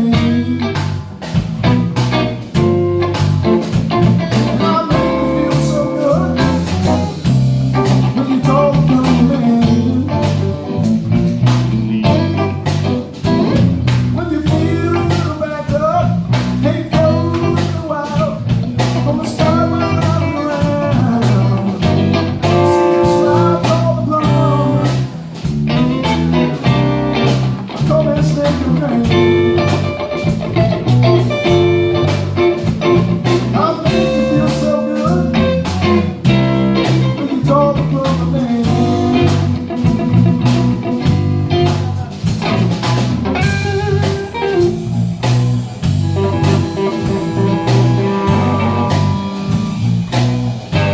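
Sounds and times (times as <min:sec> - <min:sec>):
bending lead guitar line: 0:00.0 - 0:50.9
blues band playing: 0:00.0 - 0:50.9.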